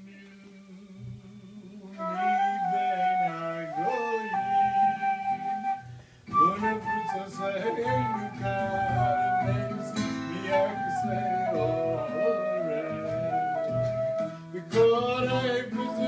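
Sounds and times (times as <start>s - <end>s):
acoustic guitar accompaniment: 0.0s - 16.0s
flute melody: 1.8s - 16.0s.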